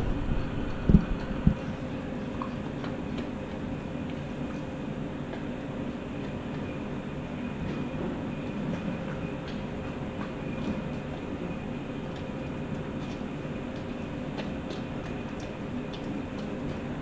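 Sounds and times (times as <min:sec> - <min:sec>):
dog chewing from a bowl: 0:00.0 - 0:17.0
faint hum: 0:00.0 - 0:17.0.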